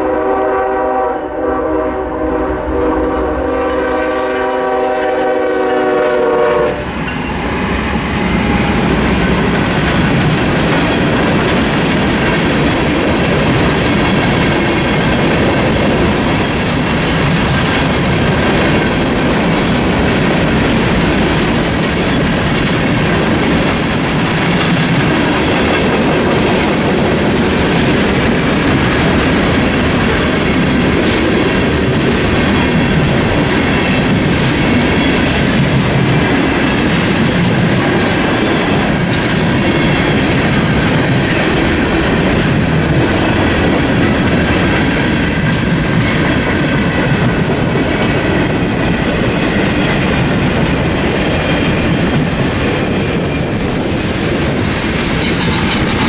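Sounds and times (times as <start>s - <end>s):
train rumble: 0.0s - 56.0s
train wheels clicking over joints: 6.8s - 56.0s.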